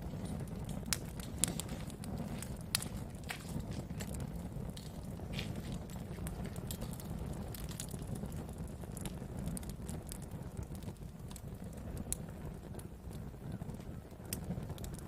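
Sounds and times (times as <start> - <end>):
burning wood popping and crackling: 0.0 - 15.0
low rumble of flames: 0.0 - 15.0.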